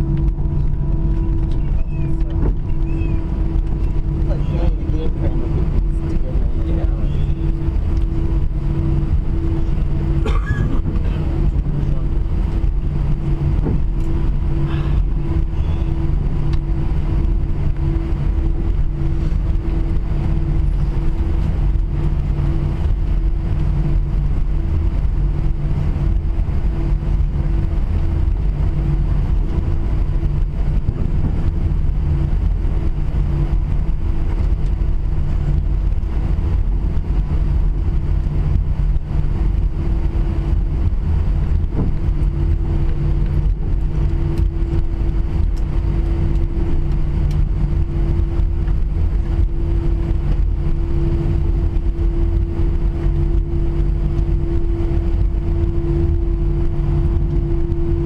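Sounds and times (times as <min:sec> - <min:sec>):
airplane cabin engine rumble: 0:00.0 - 0:58.0
pulsing low drone: 0:00.0 - 0:58.0.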